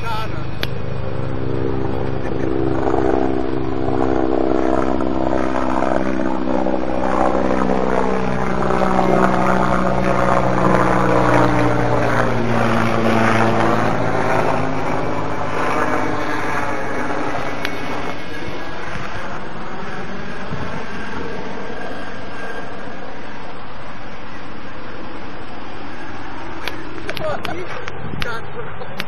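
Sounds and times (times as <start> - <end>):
model plane motor whine: 0.1 - 28.2
wind rumble on microphone: 0.7 - 22.1, 26.7 - 29.0.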